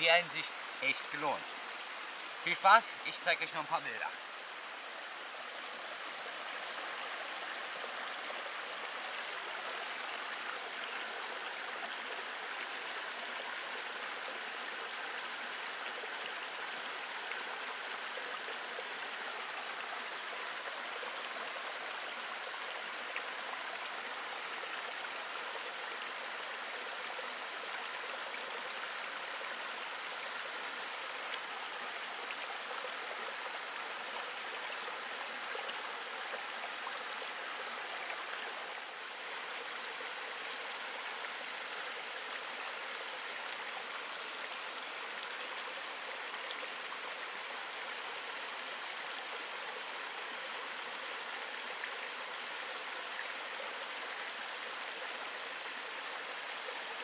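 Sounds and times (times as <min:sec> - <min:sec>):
stream trickling over rocks: 0:00.0 - 0:57.0.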